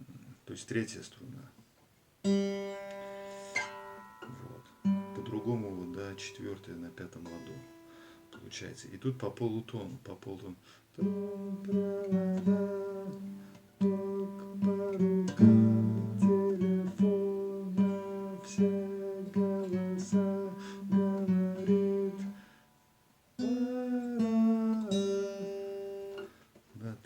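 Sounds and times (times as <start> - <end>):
acoustic guitar picking melody: 2.2 - 8.6, 11.0 - 26.5.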